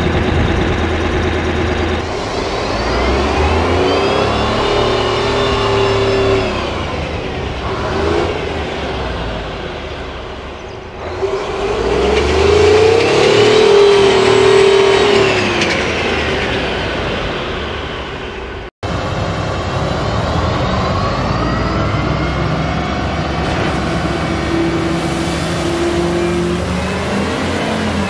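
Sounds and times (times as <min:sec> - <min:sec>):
diesel engine revving: 0:00.0 - 0:28.0.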